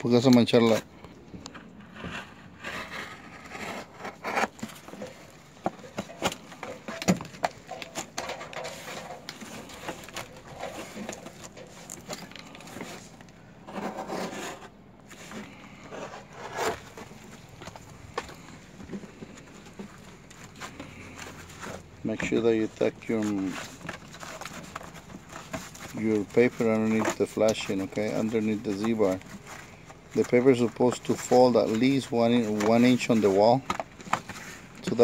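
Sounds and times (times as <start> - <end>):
roofing paper scraping and crinkling: 0.0 - 35.0
paper rustling: 0.1 - 35.0.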